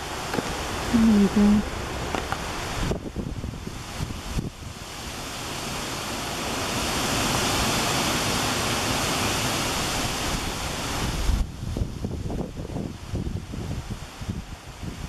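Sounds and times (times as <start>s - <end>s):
wind rumbling on microphone: 0.0s - 15.0s
wind rushing through trees: 0.0s - 15.0s.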